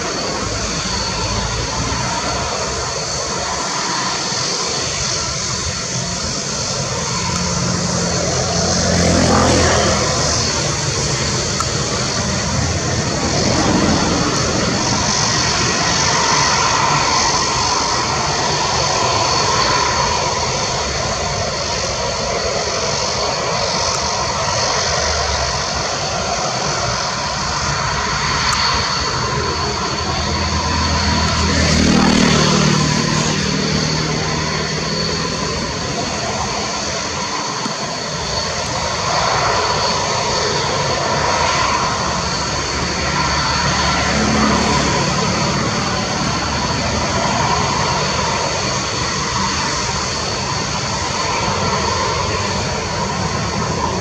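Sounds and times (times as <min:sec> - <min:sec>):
jet engine running with whine: 0:00.0 - 0:54.0.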